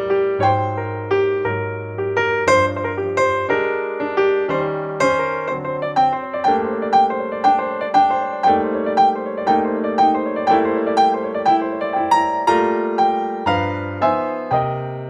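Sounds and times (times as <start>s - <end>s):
piano playing notes over chords: 0.0s - 15.0s.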